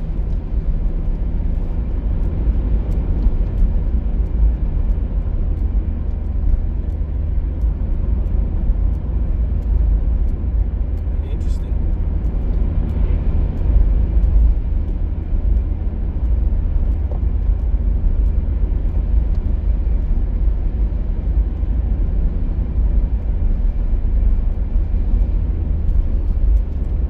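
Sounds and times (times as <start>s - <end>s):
car interior road noise: 0.0s - 27.0s.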